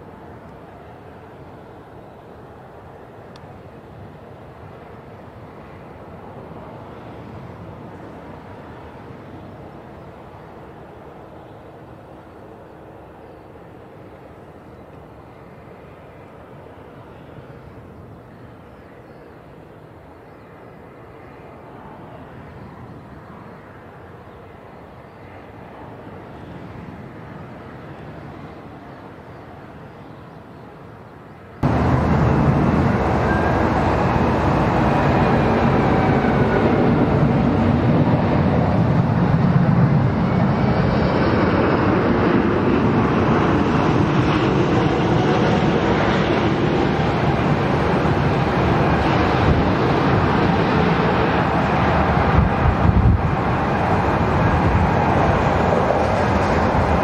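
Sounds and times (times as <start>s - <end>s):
jet engine whine: 0.0s - 57.0s
jet engines rumbling: 0.0s - 57.0s.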